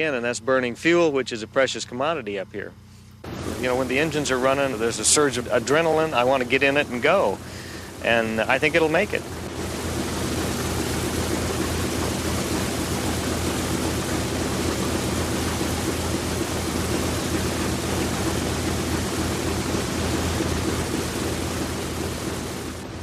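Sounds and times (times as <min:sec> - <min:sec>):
piston aircraft engines droning: 0:00.0 - 0:23.0.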